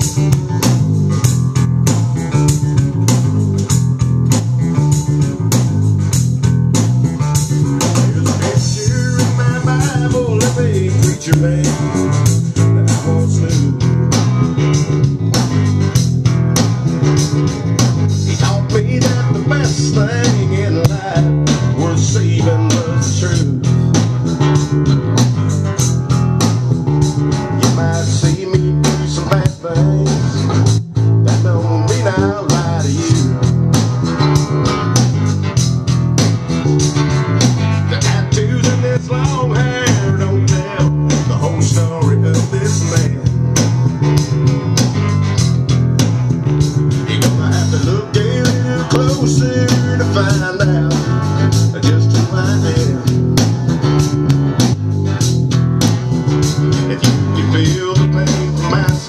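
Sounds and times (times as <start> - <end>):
drum kit groove: 0.0 - 59.0
electric bass guitar: 0.0 - 59.0.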